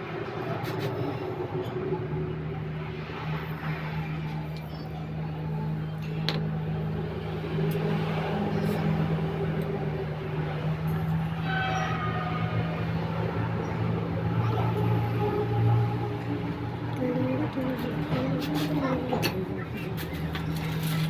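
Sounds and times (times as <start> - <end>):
faint voices: 0.0 - 21.0
low mechanical drone: 0.0 - 21.0.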